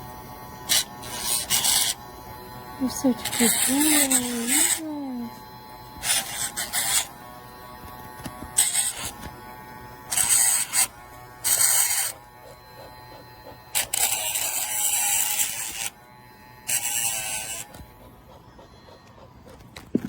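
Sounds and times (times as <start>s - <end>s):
electric nail grinder whining: 0.0s - 20.0s
grinder grinding nail: 0.0s - 20.0s.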